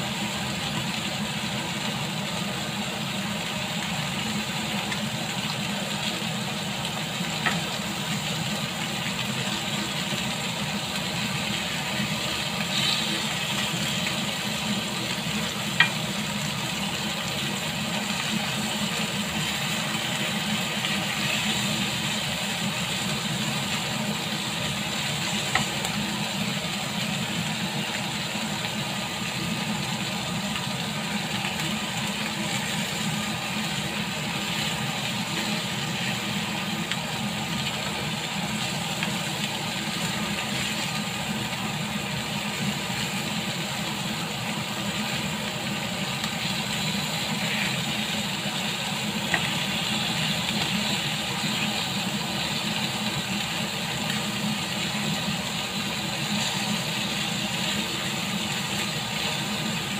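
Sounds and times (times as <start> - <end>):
lamb chops sizzling: 0.0 - 59.9.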